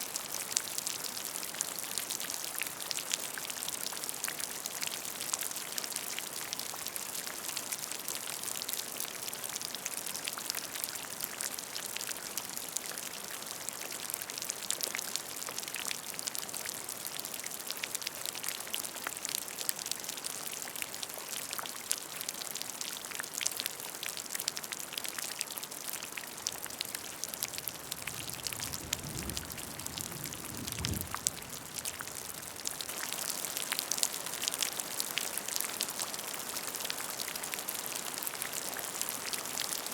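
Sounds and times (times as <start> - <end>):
rain pattering on a puddle: 0.0 - 39.9.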